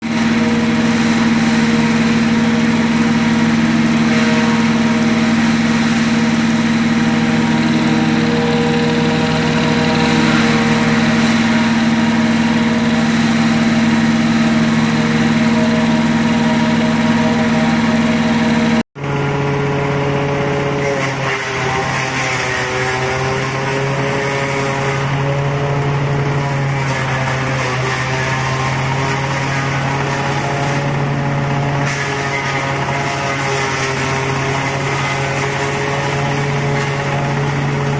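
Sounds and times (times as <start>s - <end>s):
wood chipper humming: 0.0s - 37.9s.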